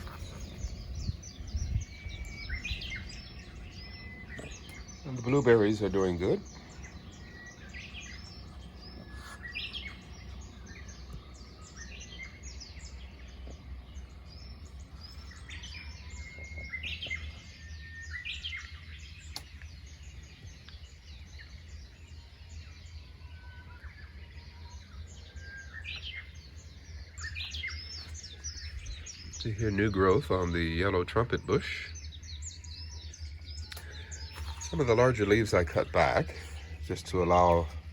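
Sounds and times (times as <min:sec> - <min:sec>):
low background rumble: 0:00.0 - 0:37.9
small birds chirping: 0:00.0 - 0:37.9.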